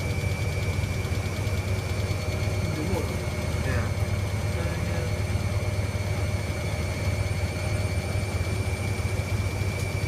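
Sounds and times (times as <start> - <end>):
washing machine spinning: 0.0 - 10.0.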